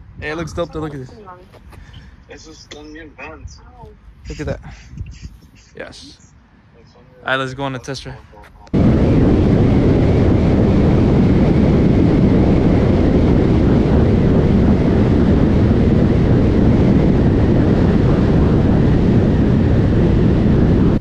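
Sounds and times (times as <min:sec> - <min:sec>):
wind rushing over microphone: 0:00.0 - 0:06.2, 0:07.9 - 0:21.0.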